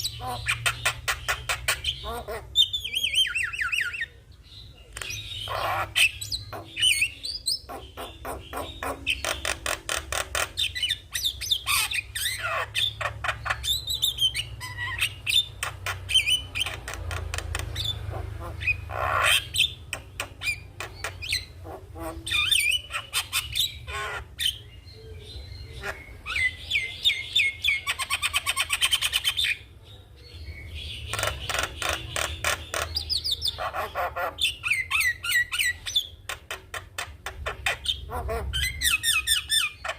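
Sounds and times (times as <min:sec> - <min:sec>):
bird singing with clicks and whistles: 0:00.0 - 0:04.1, 0:04.8 - 0:18.0, 0:18.6 - 0:29.7, 0:30.3 - 0:39.9.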